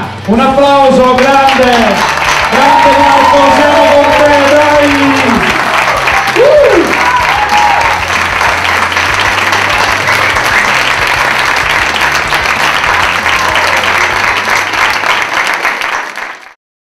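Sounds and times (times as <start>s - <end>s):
crowd applauding: 0.2s - 16.6s.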